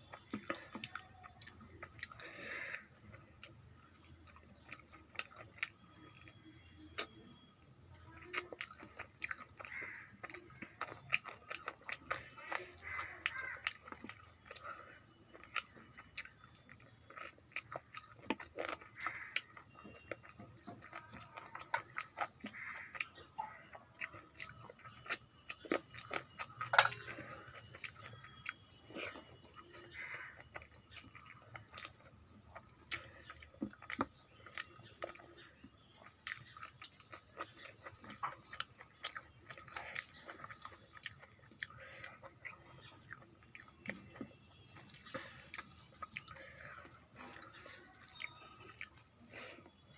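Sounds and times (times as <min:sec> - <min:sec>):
chewing and wet mouth sounds: 0:00.0 - 0:49.9.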